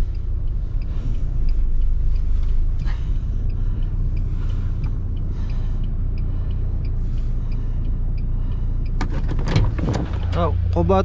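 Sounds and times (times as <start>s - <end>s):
faint regular ticking: 0.0s - 9.5s
engine running at low revs: 0.0s - 11.0s.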